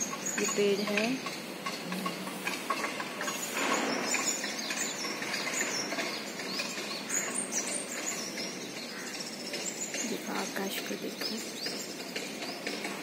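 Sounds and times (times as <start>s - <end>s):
many small birds chirping: 0.0s - 13.0s.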